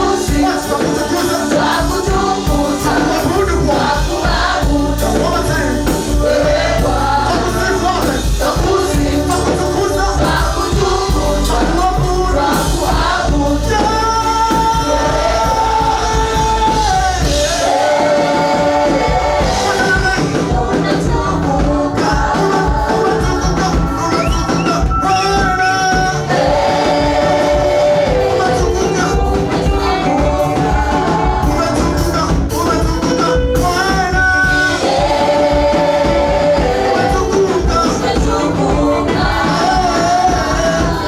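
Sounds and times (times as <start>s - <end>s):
band with bass and beat: 0.0s - 41.0s
vocal group singing gospel: 0.0s - 41.0s.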